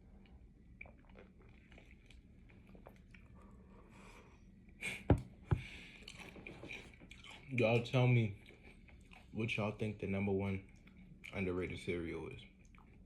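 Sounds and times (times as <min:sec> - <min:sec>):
chewing cereal: 0:00.0 - 0:04.2, 0:05.7 - 0:13.0.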